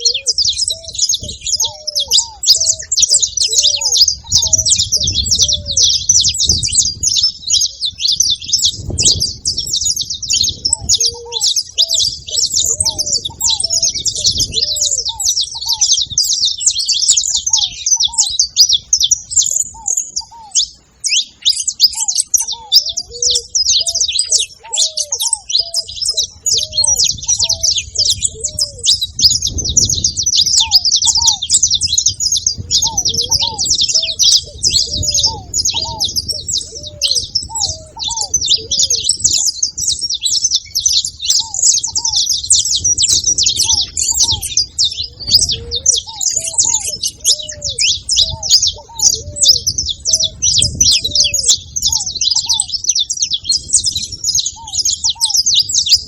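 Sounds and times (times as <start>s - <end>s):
finches chirping and singing: 0.0s - 56.0s.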